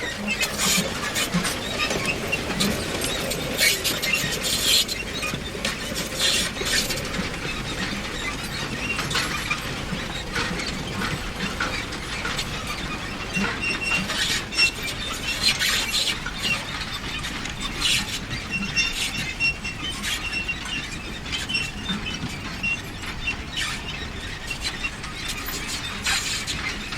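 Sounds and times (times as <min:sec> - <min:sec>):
clanks and rattles: 0:00.0 - 0:26.9
manure spreader running: 0:00.0 - 0:26.9.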